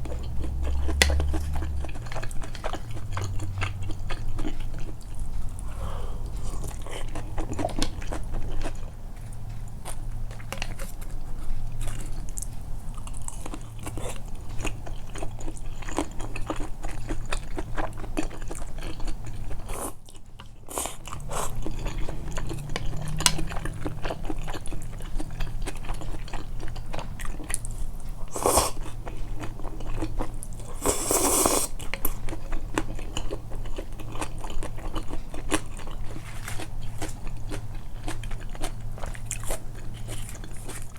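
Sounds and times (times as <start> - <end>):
chewing and biting food: 0.0 - 40.9.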